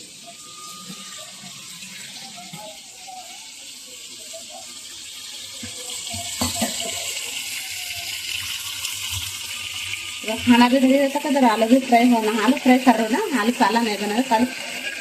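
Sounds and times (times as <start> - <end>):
tomatoes sizzling in oil: 0.0 - 15.0.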